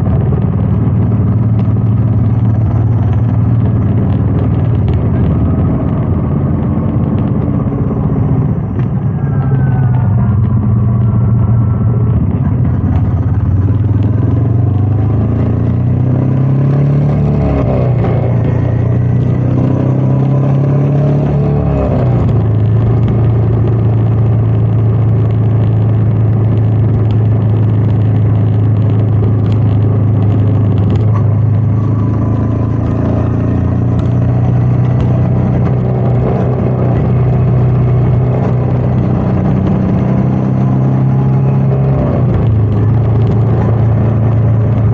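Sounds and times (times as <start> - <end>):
motorcycle engine running: 0.0 - 44.9
wind noise: 0.0 - 44.9.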